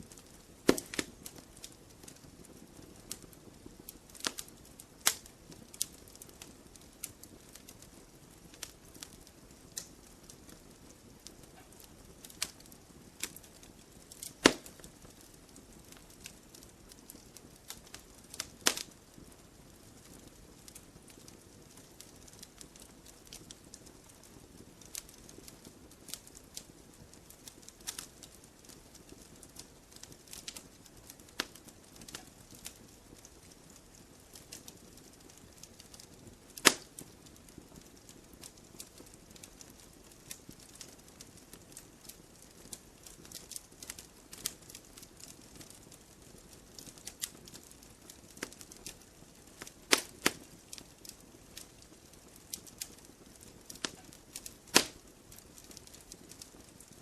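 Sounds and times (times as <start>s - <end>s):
campfire crackling and popping: 0.0s - 57.0s
soft fire hiss: 0.0s - 57.0s.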